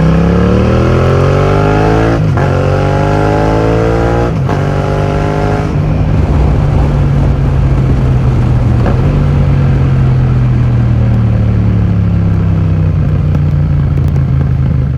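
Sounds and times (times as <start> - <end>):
motorcycle engine running loud: 0.0 - 14.9.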